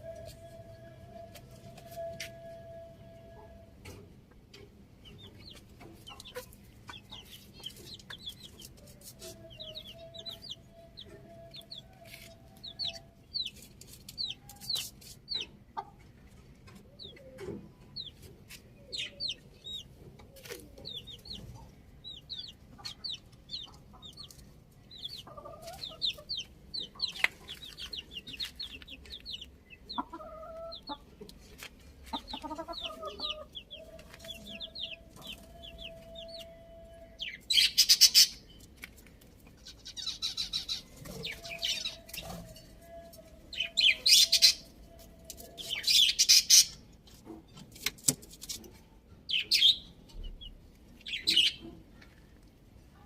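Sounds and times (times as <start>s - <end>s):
chickens clucking: 3.4s - 53.0s.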